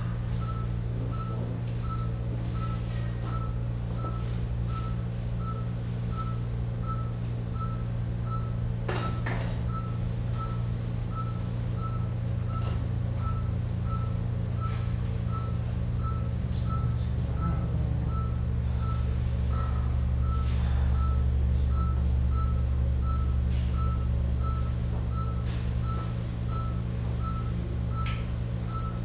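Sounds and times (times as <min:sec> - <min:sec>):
low machine hum: 0:00.0 - 0:29.0
patient monitor beeping: 0:00.4 - 0:29.0.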